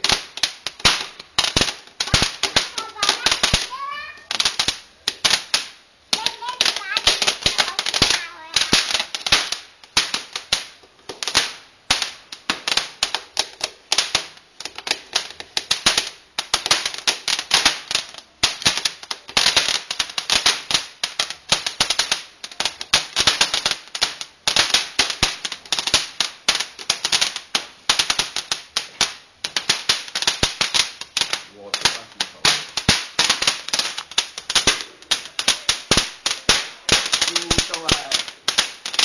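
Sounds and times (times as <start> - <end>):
firework crackling: 0.0 - 39.0.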